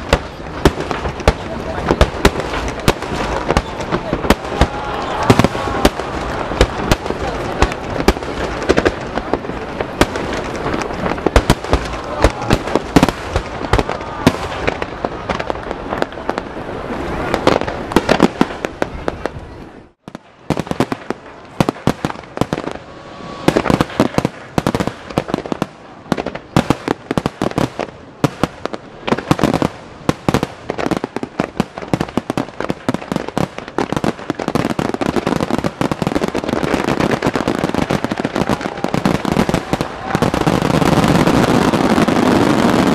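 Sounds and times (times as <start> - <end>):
firework bursts and booms: 0.0 - 42.9
fireworks crackling: 0.0 - 42.9.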